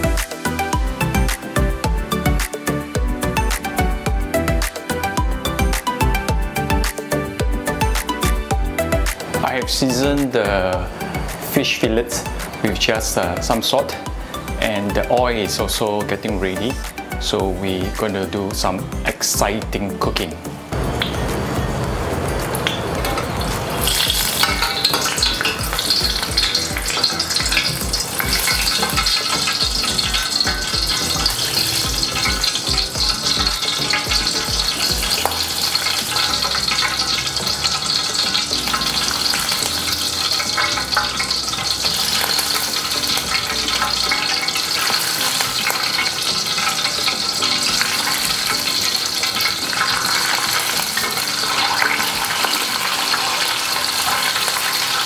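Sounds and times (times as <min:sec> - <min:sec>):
fish deep-frying in oil: 0:00.0 - 0:18.0, 0:20.7 - 0:55.0.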